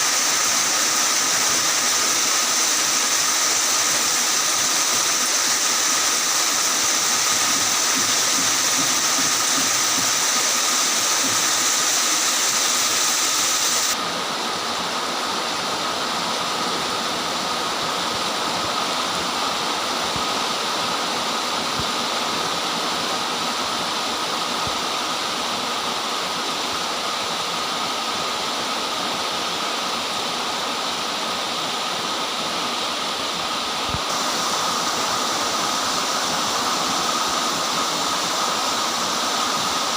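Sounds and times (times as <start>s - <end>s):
heavy rain pouring: 0.0s - 27.4s, 29.2s - 39.9s.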